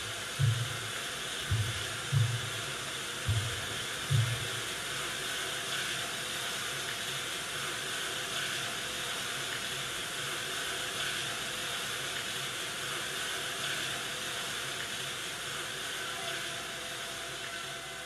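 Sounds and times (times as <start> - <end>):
steady hissing noise: 0.0 - 18.0.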